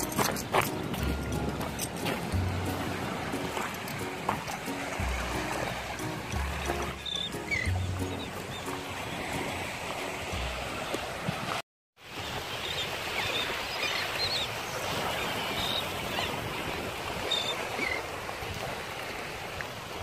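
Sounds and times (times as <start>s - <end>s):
seabirds calling: 0.0s - 11.2s, 12.2s - 18.2s
waves washing over rocks: 0.0s - 20.0s
wind: 0.0s - 20.0s.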